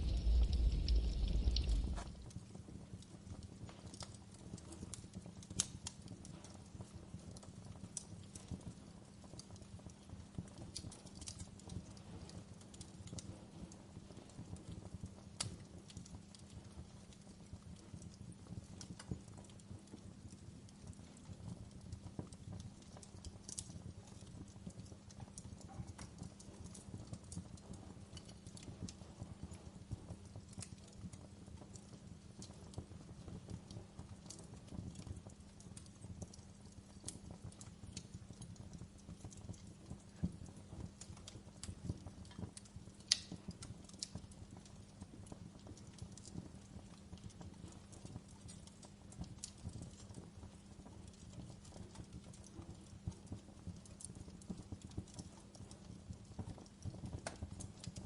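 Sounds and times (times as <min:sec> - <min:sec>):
campfire crackling: 0:00.0 - 0:58.0
fire popping and snapping: 0:00.0 - 0:58.0.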